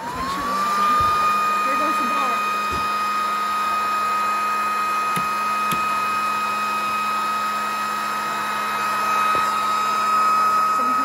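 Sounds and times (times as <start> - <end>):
electric blower whining: 0.0 - 11.0.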